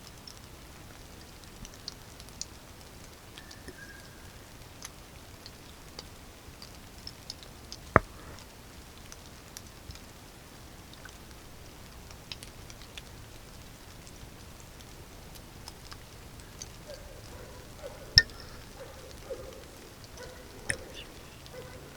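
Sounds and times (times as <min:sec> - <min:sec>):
faint steady hiss: 0:00.0 - 0:21.9
raindrops tapping: 0:00.1 - 0:21.9.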